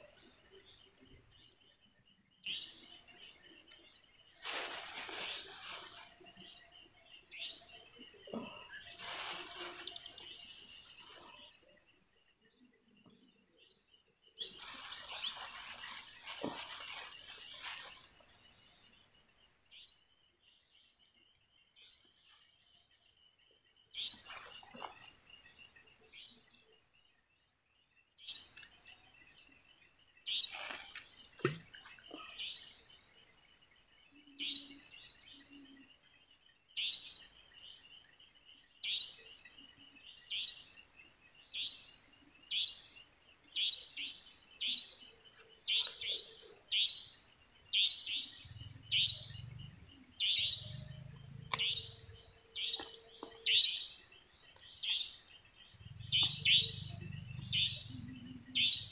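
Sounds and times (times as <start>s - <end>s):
bird chirping: 0.0s - 58.9s.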